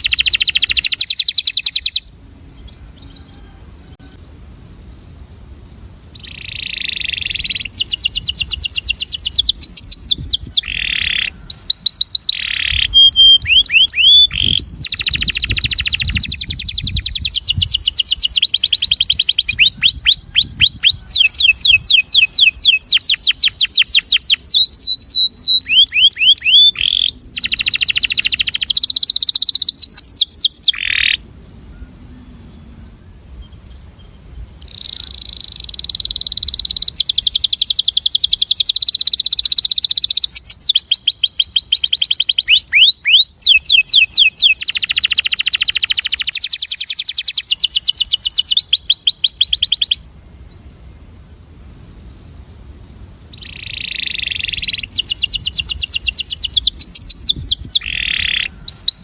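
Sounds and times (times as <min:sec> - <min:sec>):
canary singing rapid trills: 0:00.0 - 0:03.4, 0:06.1 - 0:32.2, 0:34.6 - 0:50.0, 0:53.3 - 0:59.0.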